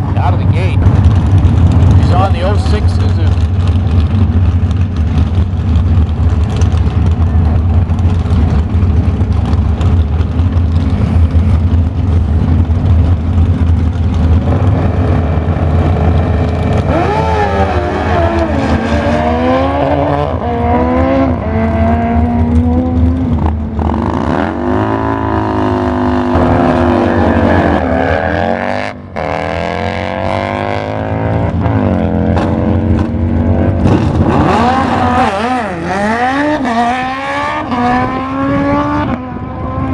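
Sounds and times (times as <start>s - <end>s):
motorcycle engines accelerating: 0.0s - 39.9s.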